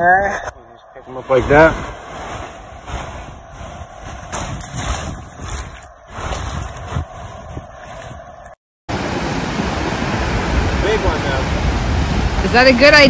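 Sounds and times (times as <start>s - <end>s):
surf washing up beach: 0.0s - 13.0s
wind buffeting microphone: 0.3s - 8.6s, 9.2s - 13.0s.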